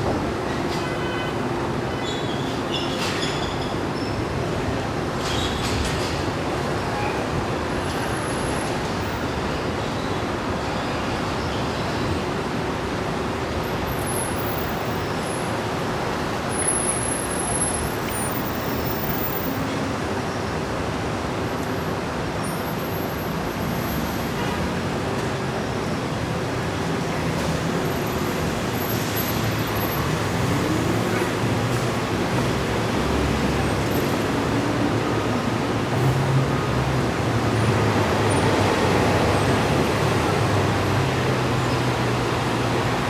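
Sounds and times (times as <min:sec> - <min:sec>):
heavy street traffic: 0:00.0 - 0:43.0.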